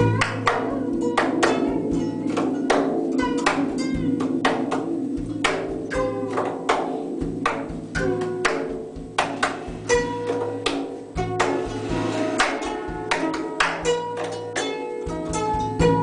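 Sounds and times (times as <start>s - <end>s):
plucked string music: 0.0s - 16.0s.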